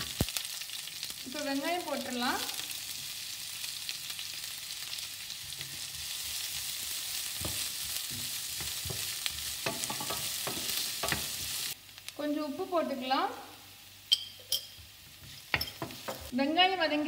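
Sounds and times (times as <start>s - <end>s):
onion sizzling in oil: 0.0s - 17.0s.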